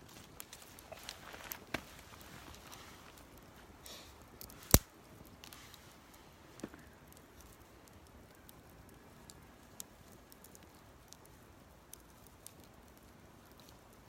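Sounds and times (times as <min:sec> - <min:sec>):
campfire burning: 0:00.0 - 0:14.0
faint fire ticks: 0:00.0 - 0:14.0
fire popping: 0:00.0 - 0:14.0.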